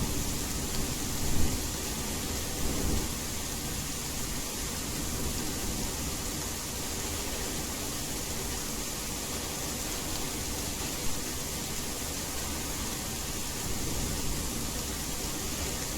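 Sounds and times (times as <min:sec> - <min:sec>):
heavy rain hiss: 0:00.0 - 0:15.9
white noise: 0:00.0 - 0:15.9.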